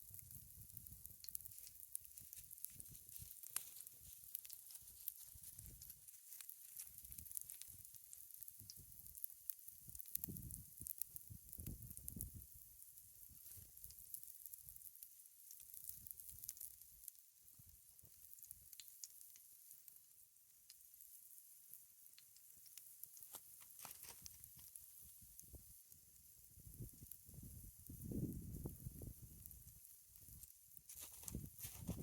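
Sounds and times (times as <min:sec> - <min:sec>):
pancakes sizzling in a skillet: 0:00.0 - 0:32.0.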